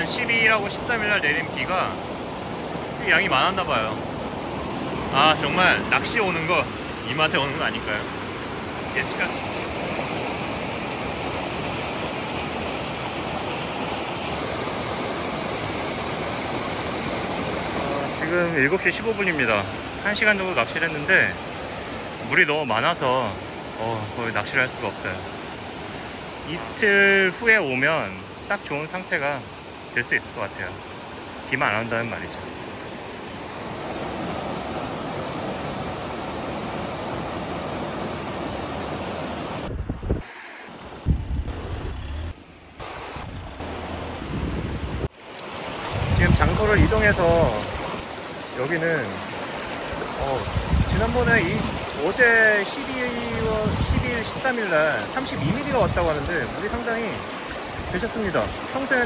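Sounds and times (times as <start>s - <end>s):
stream rushing over boulders: 0.0s - 59.0s.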